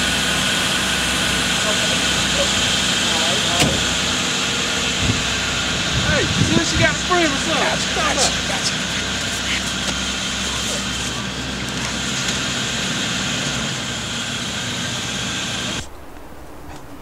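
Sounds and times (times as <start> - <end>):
car engine pulling away: 0.0 - 15.9
steady outdoor noise: 0.0 - 17.0.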